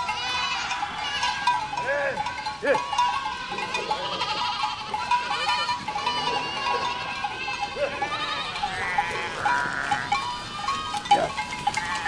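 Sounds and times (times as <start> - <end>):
goats bleating: 0.0 - 12.0.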